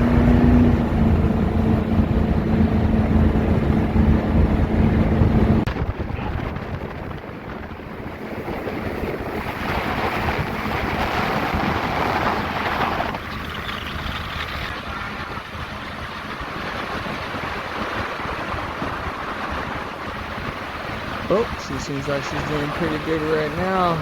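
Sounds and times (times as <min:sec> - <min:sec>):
water rushing past boat hull: 0:00.0 - 0:24.0
wind buffeting microphone: 0:00.0 - 0:24.0.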